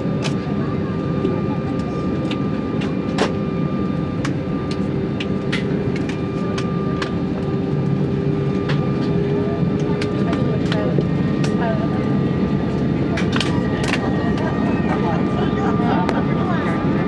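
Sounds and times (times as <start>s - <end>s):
aircraft engine hum: 0.0s - 17.0s.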